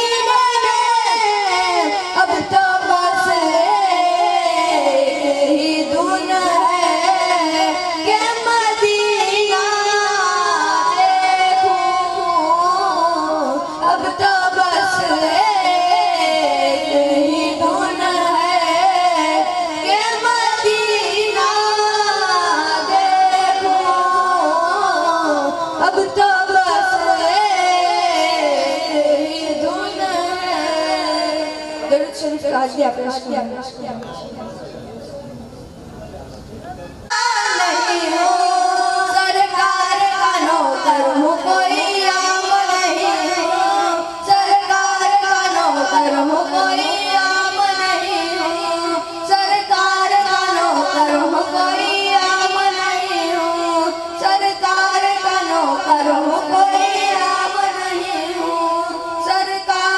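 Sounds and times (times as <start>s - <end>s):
high voice singing devotional song: 0.0s - 35.8s, 37.0s - 59.9s.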